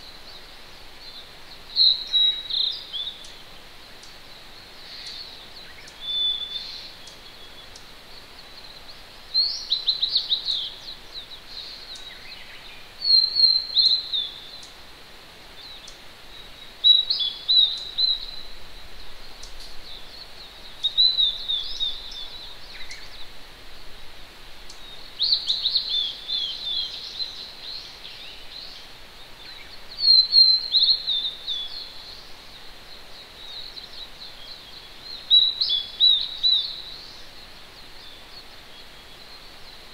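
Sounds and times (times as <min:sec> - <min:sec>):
distant stream hiss: 0:00.0 - 0:39.9
songbird singing: 0:00.0 - 0:39.9.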